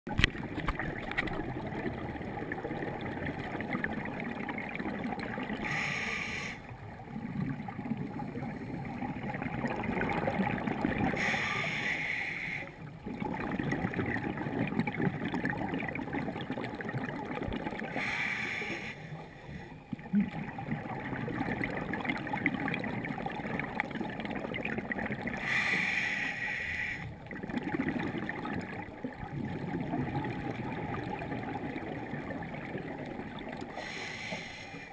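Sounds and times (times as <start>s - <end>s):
bubbling regulator exhalations: 0.1s - 18.8s, 19.9s - 34.6s
low rumble of water: 0.1s - 34.9s.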